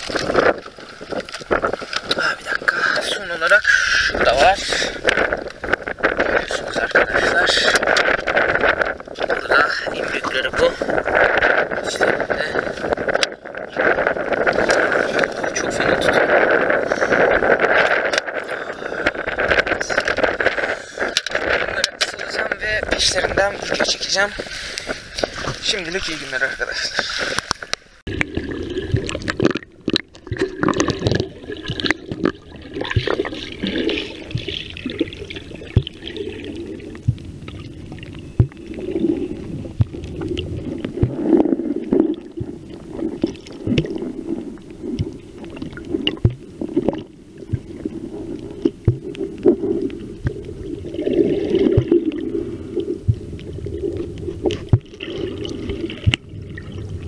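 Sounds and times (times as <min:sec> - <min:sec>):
underwater clicks and knocks: 0:00.0 - 0:03.2, 0:04.2 - 0:26.1, 0:26.9 - 0:52.3, 0:52.9 - 0:57.0
muffled underwater wash: 0:00.0 - 0:57.0.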